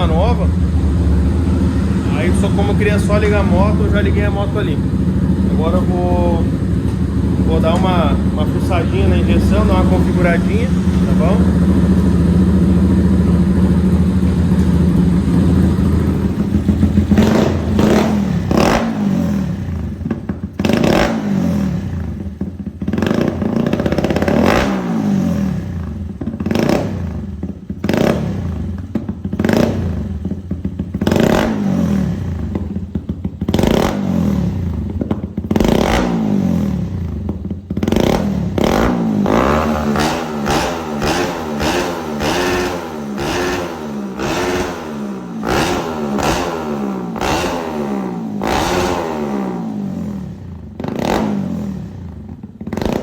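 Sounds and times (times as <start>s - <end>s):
engine revving in throttle blips: 0.0s - 53.0s
motorcycle engine idling: 0.0s - 53.0s.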